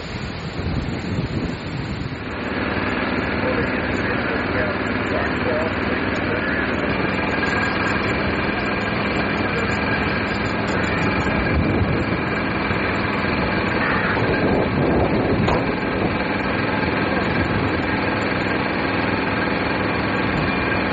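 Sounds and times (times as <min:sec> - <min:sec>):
constant rushing noise: 0:00.0 - 0:20.9
engine drone: 0:00.0 - 0:20.9.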